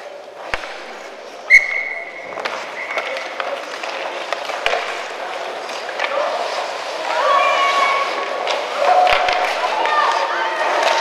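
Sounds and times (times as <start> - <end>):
hockey sticks clacking: 0.0 - 11.0
skates scraping on ice: 0.0 - 11.0.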